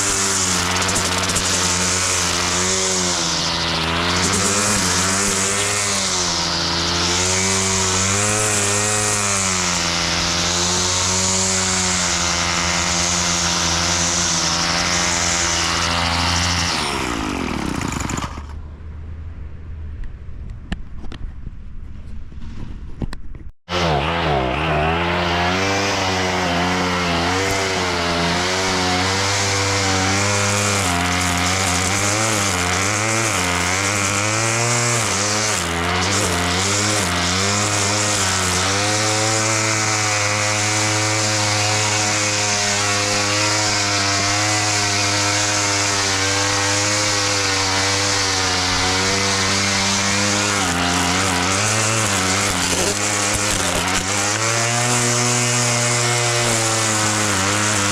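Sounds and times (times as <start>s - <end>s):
lawn mower engine running: 0.0s - 18.6s, 23.7s - 57.9s.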